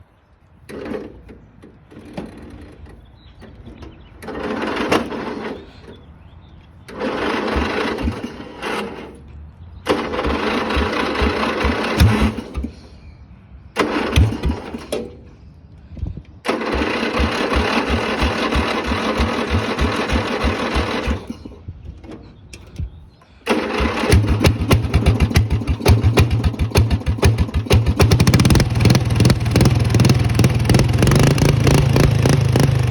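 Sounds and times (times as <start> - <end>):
starter cranking engine: 0.7 - 6.1, 6.8 - 9.2, 9.8 - 12.9, 13.8 - 15.2, 16.4 - 21.7, 22.5 - 32.9
engine running: 0.7 - 13.1, 13.7 - 15.4, 16.4 - 22.7, 23.4 - 32.9.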